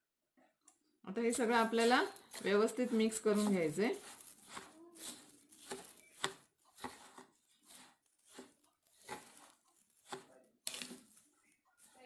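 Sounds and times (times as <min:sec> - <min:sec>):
spoon scraping dry mix in metal container: 0:01.2 - 0:12.0.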